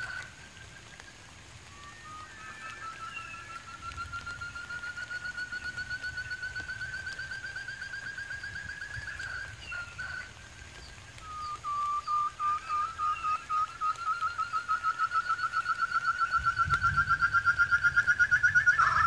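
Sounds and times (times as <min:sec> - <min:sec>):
quail trilling call: 0:00.0 - 0:00.4, 0:01.6 - 0:19.0.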